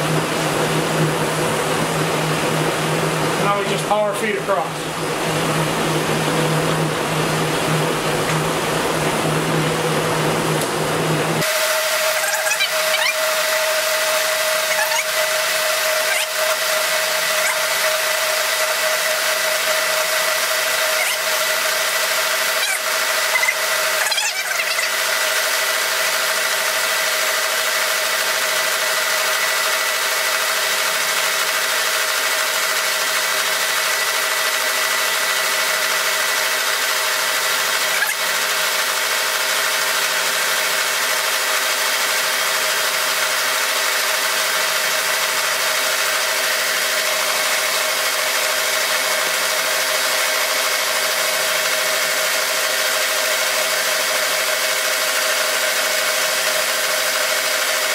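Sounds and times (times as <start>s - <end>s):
milling machine cutting steel: 11.4s - 57.9s.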